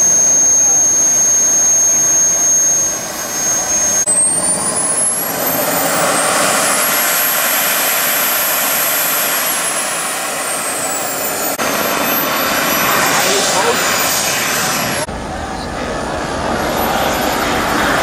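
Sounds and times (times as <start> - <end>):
model jet turbine whining: 0.0 - 18.0.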